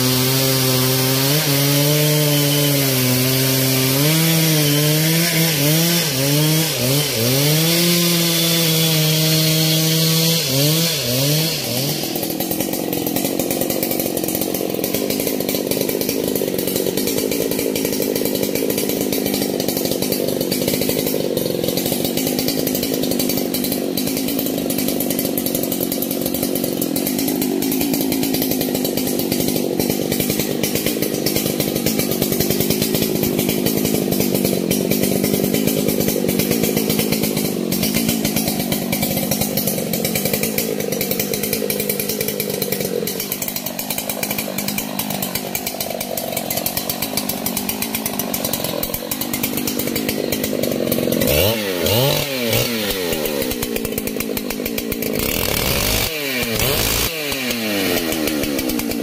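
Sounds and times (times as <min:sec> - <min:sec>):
chainsaw cutting tree trunk: 0:00.0 - 0:59.0.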